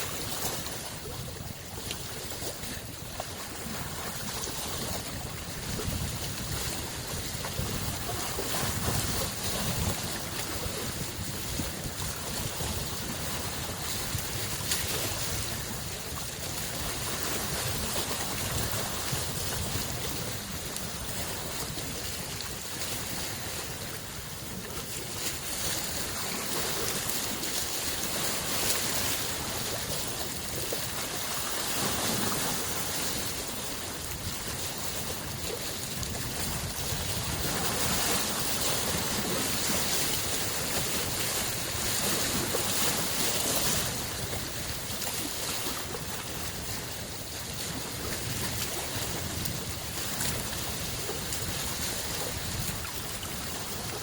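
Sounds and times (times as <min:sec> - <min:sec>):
small waves washing against shore: 0:00.0 - 0:54.0.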